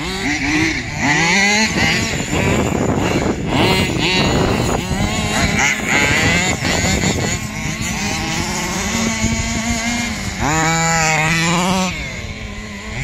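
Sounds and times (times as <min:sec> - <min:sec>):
small petrol engine revving: 0:00.0 - 0:13.0.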